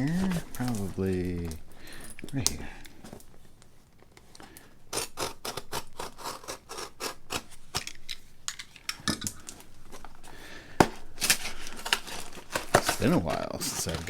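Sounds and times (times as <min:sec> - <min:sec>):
packaging scratching and ripping: 0:00.0 - 0:03.0, 0:04.9 - 0:10.3, 0:10.9 - 0:14.0.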